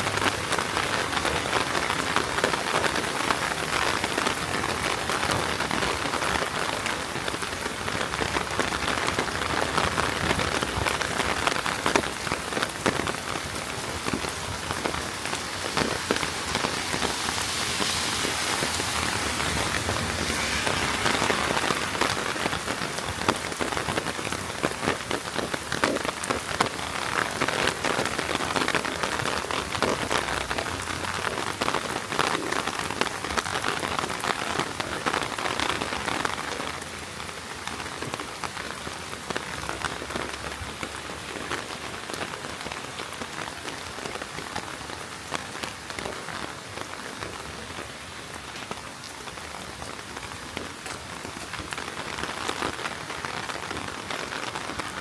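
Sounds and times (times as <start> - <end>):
heavy rain on a wet street: 0.0 - 55.0.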